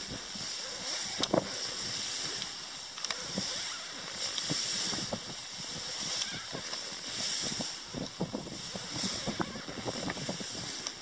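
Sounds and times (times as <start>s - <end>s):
high-pitched hiss: 0.0s - 11.0s
low wind rumble: 0.0s - 11.0s.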